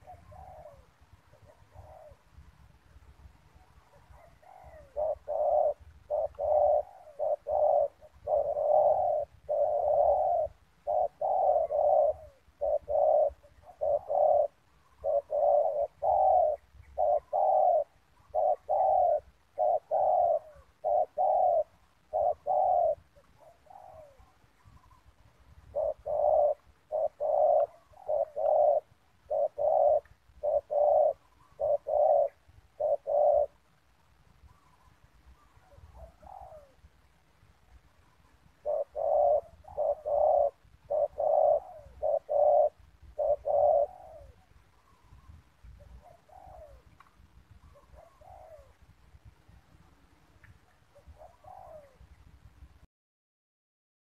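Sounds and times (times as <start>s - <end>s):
dove cooing: 0.0s - 2.5s, 3.2s - 49.9s, 50.5s - 52.2s
faint dove coos: 0.0s - 52.9s.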